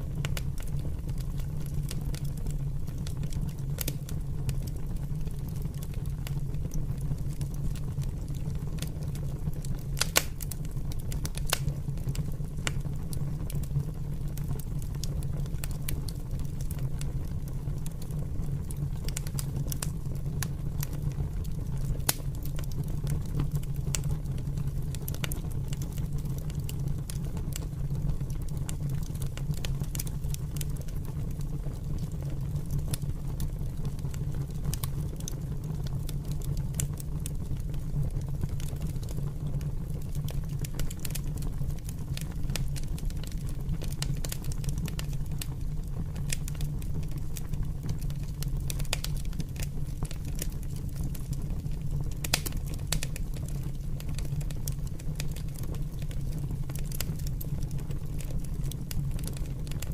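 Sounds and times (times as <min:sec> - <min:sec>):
fire crackling and rumbling: 0:00.0 - 0:59.9.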